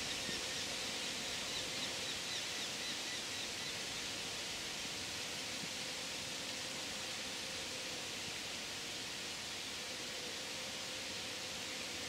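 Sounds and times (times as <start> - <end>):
wind through trees: 0.0 - 12.0.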